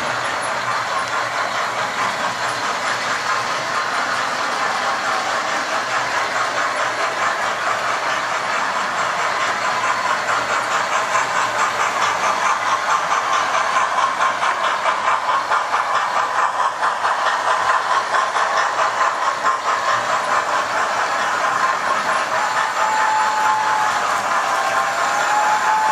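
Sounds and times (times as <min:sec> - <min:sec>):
model train motors whirring: 0:00.0 - 0:25.9
wheels clicking over rail joints: 0:00.0 - 0:25.9.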